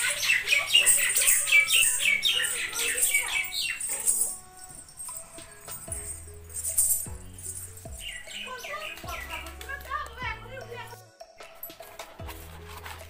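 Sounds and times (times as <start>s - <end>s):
ankle bells jingling with steps: 0.0s - 13.0s.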